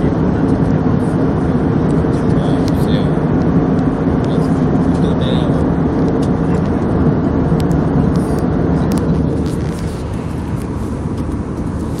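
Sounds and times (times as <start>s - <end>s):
jet airliner rumble: 0.0s - 12.0s.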